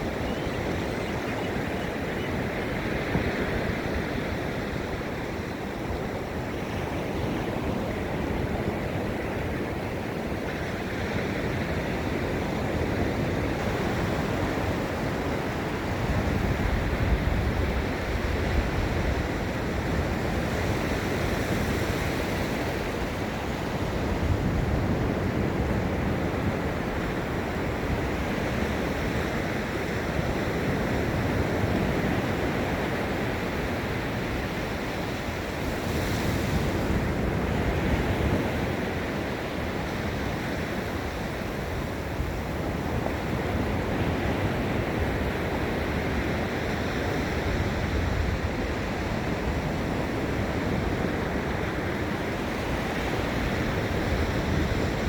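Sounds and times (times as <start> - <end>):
wind rumbling on microphone: 0.0 - 55.0
surf breaking on a beach: 2.4 - 55.0.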